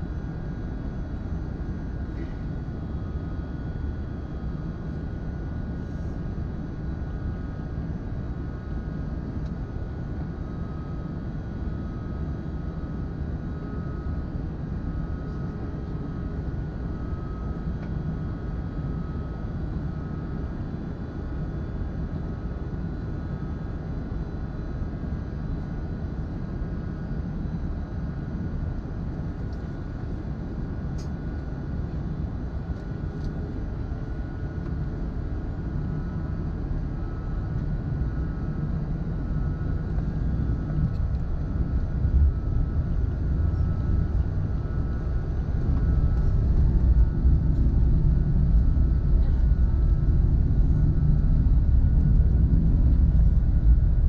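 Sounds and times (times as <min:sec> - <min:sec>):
aircraft cabin low rumble: 0:00.0 - 0:54.0
faint steady whine: 0:00.0 - 0:54.0.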